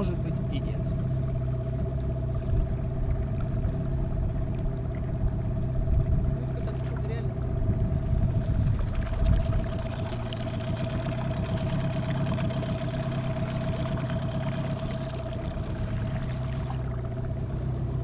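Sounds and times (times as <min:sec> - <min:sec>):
outboard motor running: 0:00.0 - 0:18.0
water washing along hull: 0:00.0 - 0:18.0.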